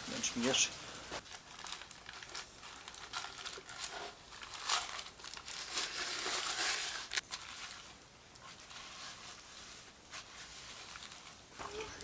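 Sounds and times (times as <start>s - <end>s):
butter paper crinkling and rubbing: 1.2s - 12.0s.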